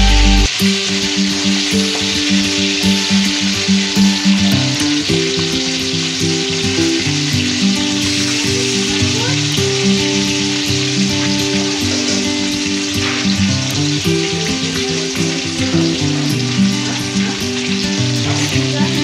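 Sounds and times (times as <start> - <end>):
background music: 0.0 - 19.0
fish sizzling in hot oil: 0.2 - 19.0.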